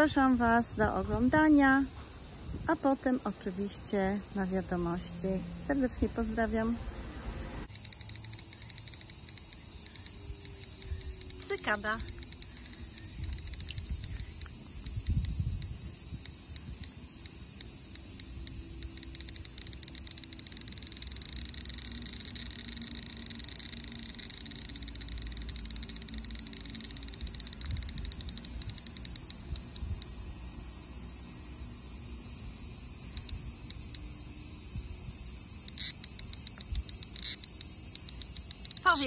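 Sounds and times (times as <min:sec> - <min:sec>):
cicada buzzing: 0:00.0 - 0:39.0.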